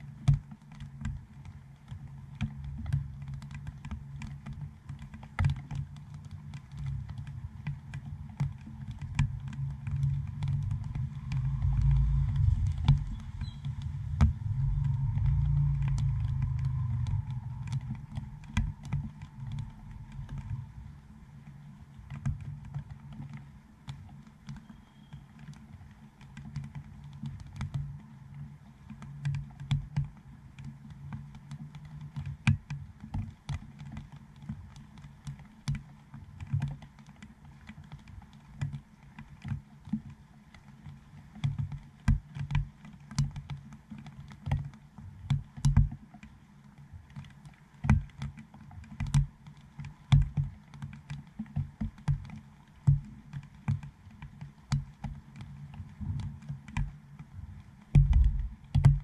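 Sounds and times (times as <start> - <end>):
raindrops tapping on plastic: 0.0 - 59.0.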